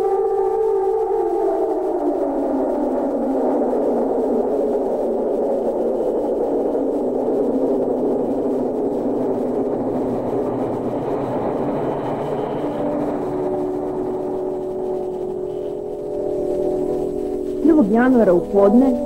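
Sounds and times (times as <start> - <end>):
low droning warning sound: 0.0 - 19.0.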